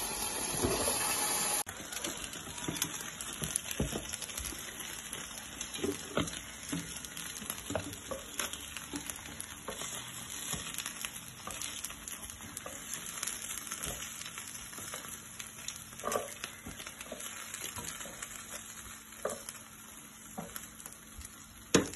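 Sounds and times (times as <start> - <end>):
chicken sizzling on grill: 0.0 - 21.9.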